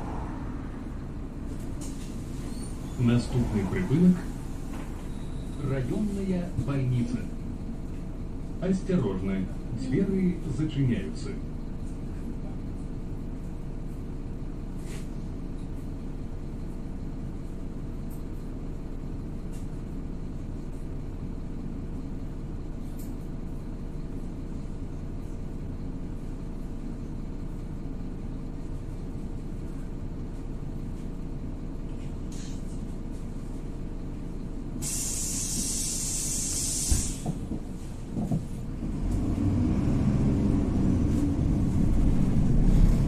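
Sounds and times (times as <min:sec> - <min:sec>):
bus engine and road rumble: 0:00.0 - 0:43.0.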